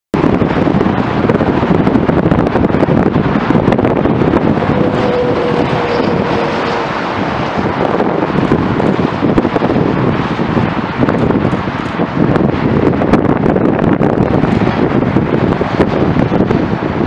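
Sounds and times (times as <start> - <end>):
wind buffeting microphone: 0.1 - 17.0
distant diesel freight train: 0.2 - 17.0.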